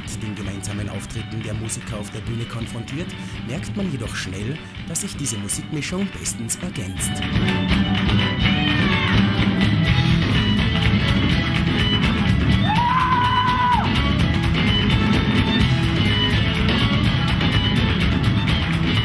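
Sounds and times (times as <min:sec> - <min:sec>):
folk-rock band playing: 0:00.0 - 0:19.0
people clapping in time: 0:00.0 - 0:19.0.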